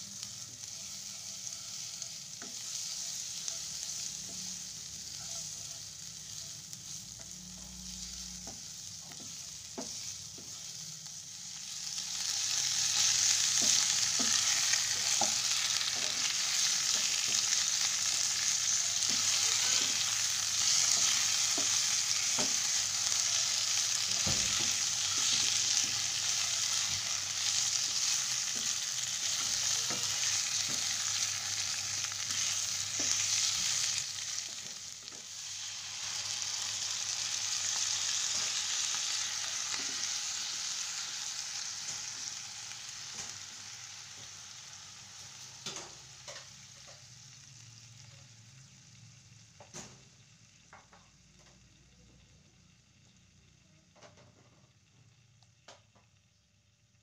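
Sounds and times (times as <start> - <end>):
food sizzling in oil: 0.0 - 51.8.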